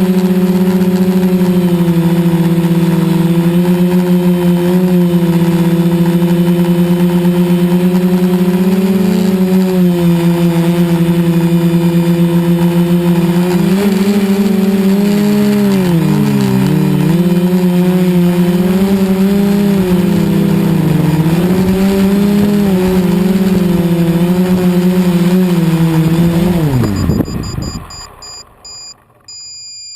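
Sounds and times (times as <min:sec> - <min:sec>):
quadcopter motors humming: 0:00.0 - 0:29.9.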